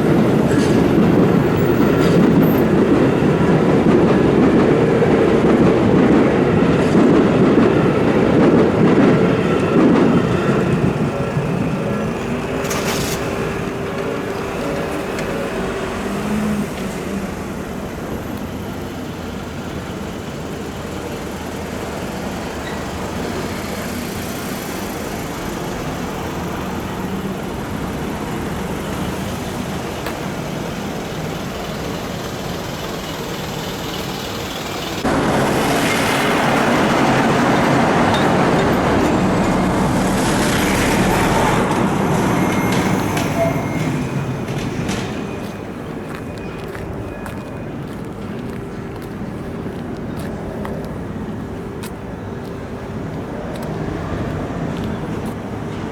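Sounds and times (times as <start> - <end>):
road traffic noise: 0.0 - 55.9.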